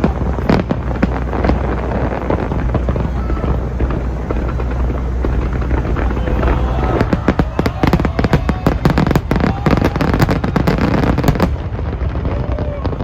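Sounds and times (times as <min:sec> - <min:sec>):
fireworks bangs and crackles: 0:00.0 - 0:13.0
low rumble of booms: 0:00.0 - 0:13.0.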